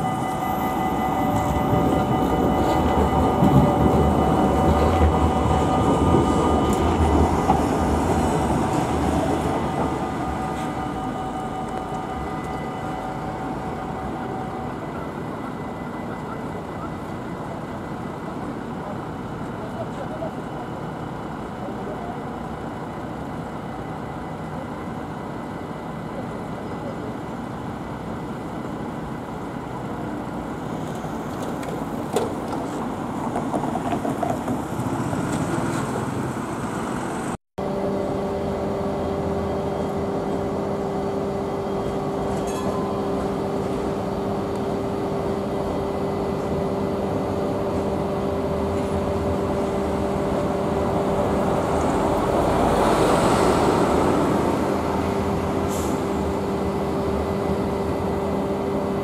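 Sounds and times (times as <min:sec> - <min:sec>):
road traffic: 0:00.0 - 0:59.0
tram passing on track: 0:00.0 - 0:59.0.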